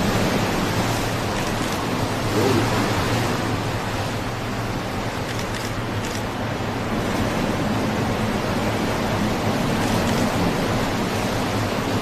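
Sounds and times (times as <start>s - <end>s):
choppy sea: 0.0s - 12.0s.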